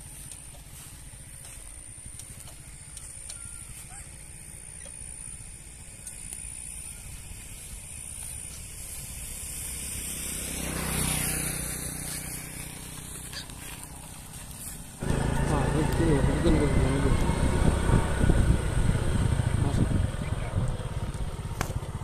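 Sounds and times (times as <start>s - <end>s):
outdoor rumble and hiss: 0.0s - 22.0s.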